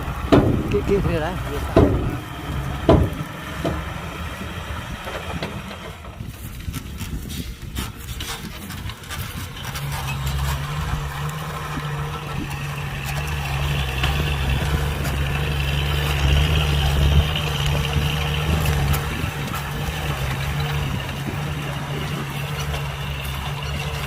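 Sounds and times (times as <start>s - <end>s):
heavy machine engine humming: 0.0s - 24.0s.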